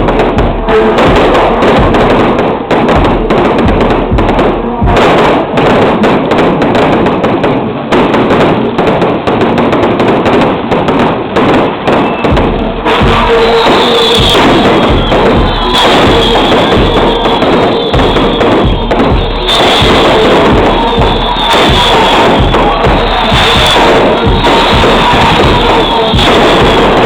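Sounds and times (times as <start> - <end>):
steady tones: 0.0 - 6.3, 10.5 - 27.0
music playing: 0.0 - 7.1, 10.9 - 27.0
fireworks crackling and thudding: 0.0 - 27.0.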